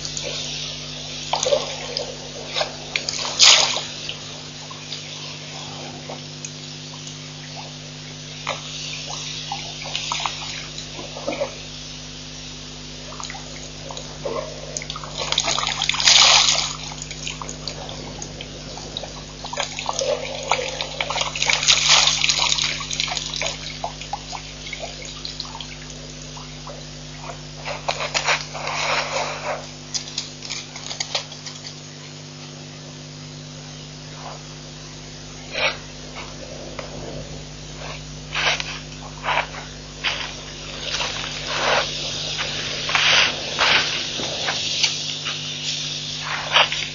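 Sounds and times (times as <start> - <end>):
water splashing and gurgling: 0.0 - 32.0, 34.1 - 46.9
low electrical hum: 0.0 - 46.9.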